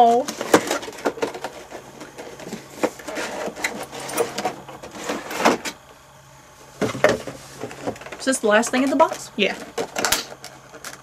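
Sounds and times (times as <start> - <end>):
packaging rustling and scraping: 0.0 - 5.9, 6.6 - 11.0.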